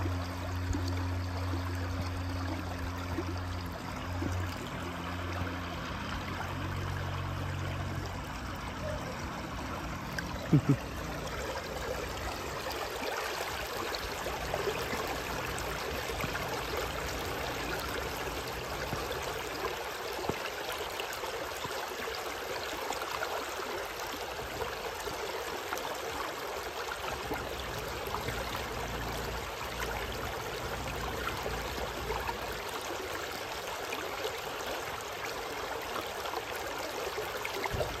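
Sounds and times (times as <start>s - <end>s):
river water flowing over stones: 0.0s - 38.0s.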